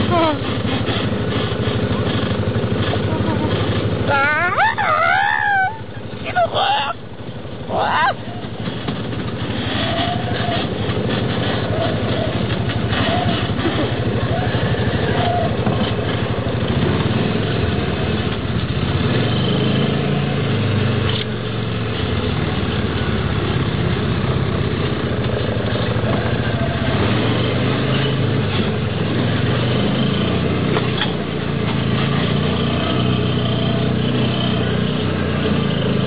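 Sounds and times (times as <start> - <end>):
three-wheeler engine revving: 0.0 - 36.0.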